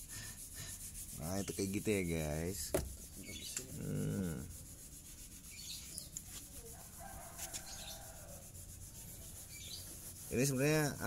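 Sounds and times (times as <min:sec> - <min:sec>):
cloth rubbing on plastic: 0:00.0 - 0:11.0.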